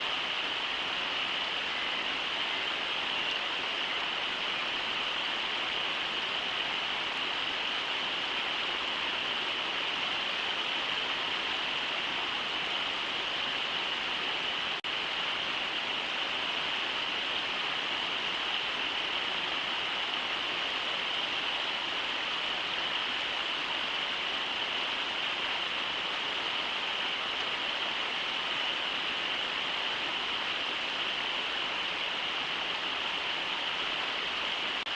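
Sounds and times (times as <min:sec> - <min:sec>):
river water running over riffles: 0:00.0 - 0:34.9.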